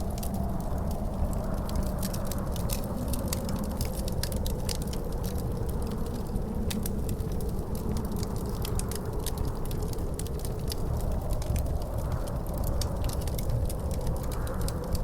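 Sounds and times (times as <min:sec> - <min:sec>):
wind rumbling and howling: 0:00.0 - 0:15.0
wood fire crackling and popping: 0:00.0 - 0:15.0.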